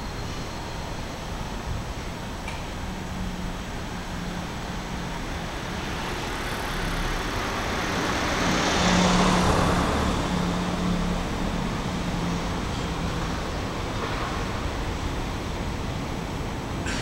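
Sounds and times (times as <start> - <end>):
low traffic hum: 0.0 - 17.0.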